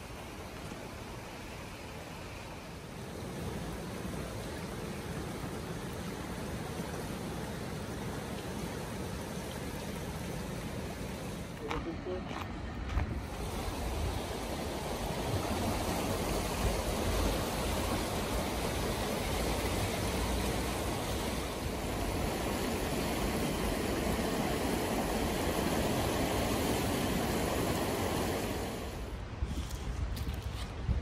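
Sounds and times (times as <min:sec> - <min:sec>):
turbulent river rushing: 0:00.0 - 0:29.4.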